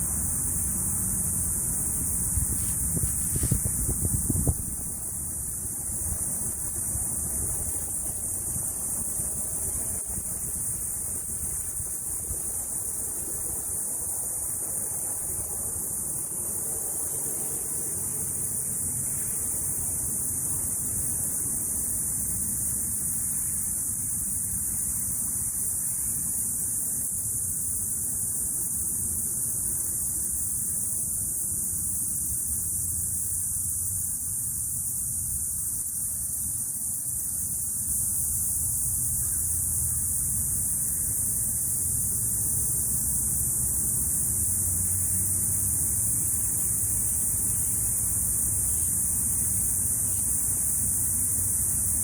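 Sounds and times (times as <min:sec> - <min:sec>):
cicadas buzzing: 0:00.0 - 0:52.0.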